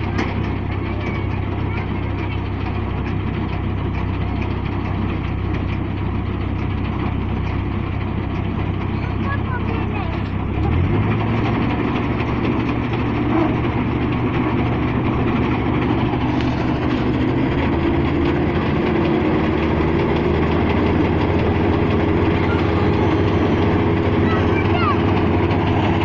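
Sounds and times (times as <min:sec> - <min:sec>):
combine harvester engine running: 0:00.0 - 0:26.0
threshing machinery running: 0:00.0 - 0:26.0.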